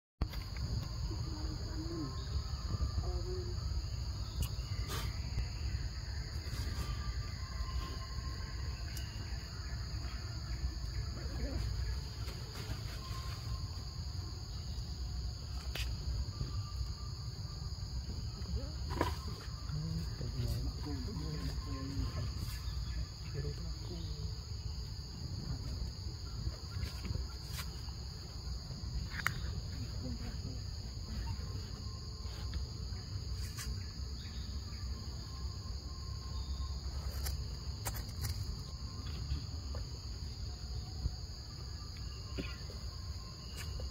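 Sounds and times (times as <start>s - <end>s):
insects droning: 0.2s - 43.9s.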